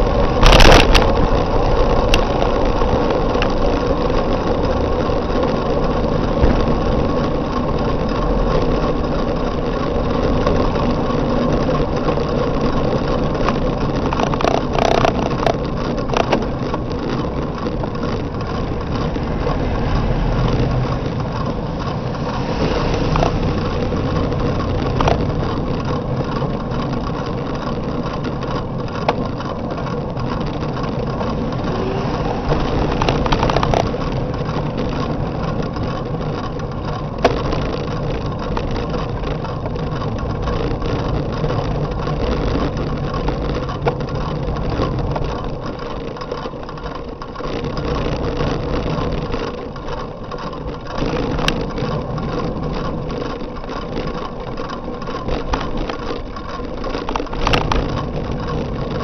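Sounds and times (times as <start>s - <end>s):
vehicle engine running: 0.0s - 59.0s
wind and road noise: 0.0s - 59.0s.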